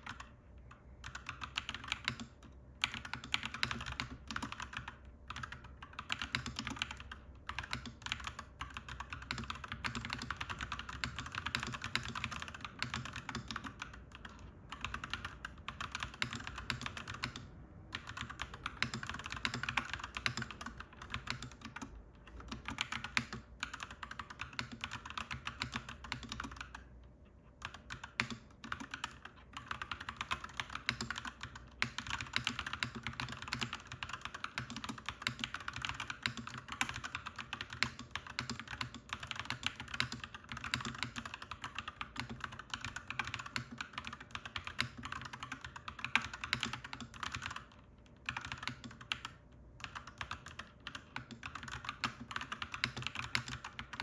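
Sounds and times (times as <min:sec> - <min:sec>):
typing on mechanical keyboard: 0:00.0 - 0:54.0.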